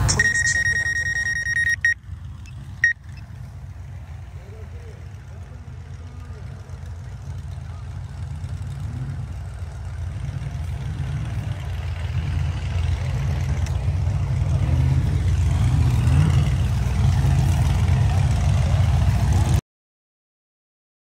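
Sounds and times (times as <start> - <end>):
off-road vehicle engine rumble: 0.0 - 19.6.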